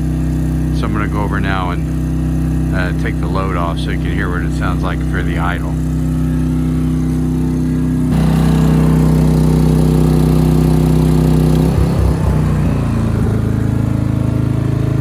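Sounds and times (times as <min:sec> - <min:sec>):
portable generator running: 0:00.0 - 0:15.0.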